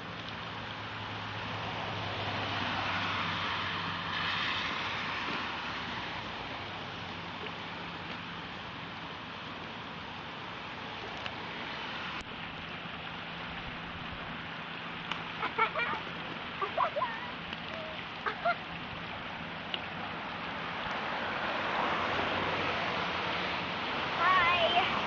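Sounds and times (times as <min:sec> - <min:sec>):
turbulent stream rushing: 0:00.0 - 0:25.0.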